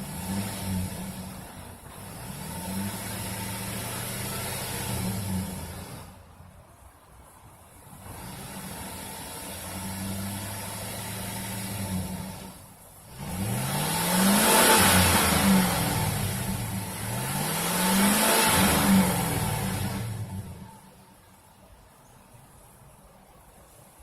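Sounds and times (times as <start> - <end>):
truck engine revving: 0.0 - 6.3, 7.9 - 20.9.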